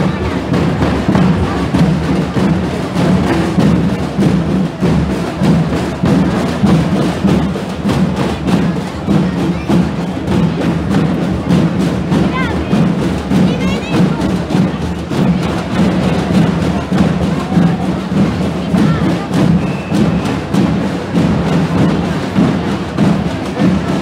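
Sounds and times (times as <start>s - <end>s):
crowd din: 0.0s - 24.0s
marching drums beating: 0.0s - 24.0s.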